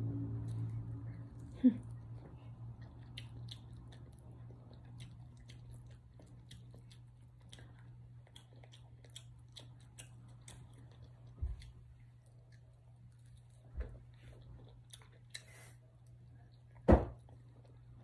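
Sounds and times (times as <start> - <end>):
steady low hum: 0.0 - 18.0
close chewing and mouth clicks: 0.4 - 18.0.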